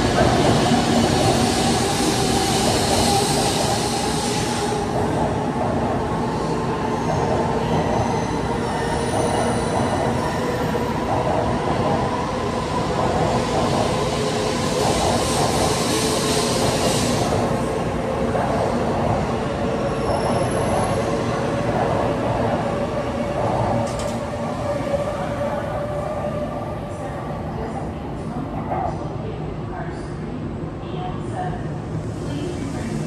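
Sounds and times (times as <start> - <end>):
train hum: 0.0 - 33.0.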